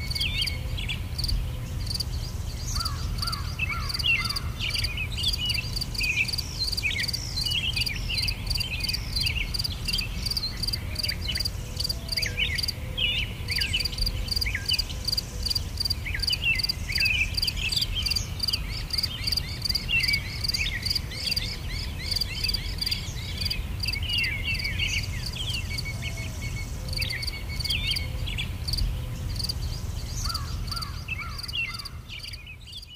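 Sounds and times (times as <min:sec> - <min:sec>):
insects chirring: 0:01.2 - 0:12.8, 0:13.6 - 0:25.9, 0:28.6 - 0:32.9.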